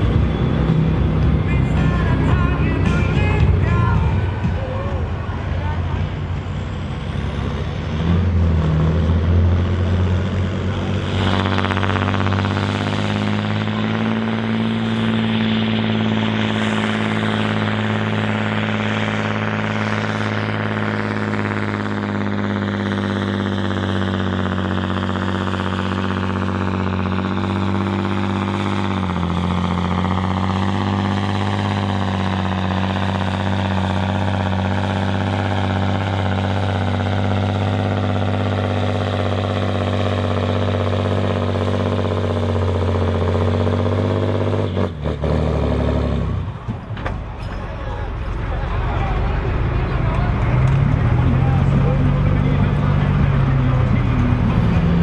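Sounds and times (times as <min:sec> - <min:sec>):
diesel tractor engine under load: 0:00.0 - 0:55.0.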